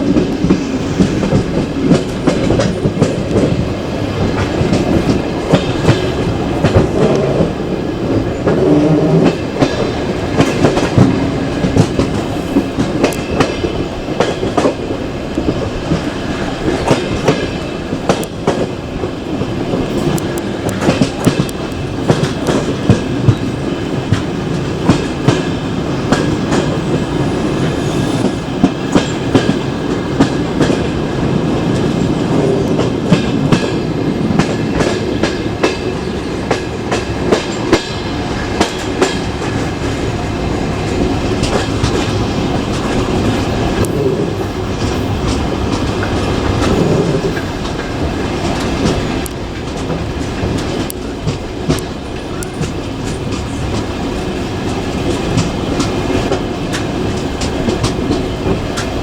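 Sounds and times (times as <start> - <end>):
wheels clicking over rail joints: 0.0 - 27.4, 28.6 - 59.0
train wheels rumbling on rails: 0.0 - 59.0.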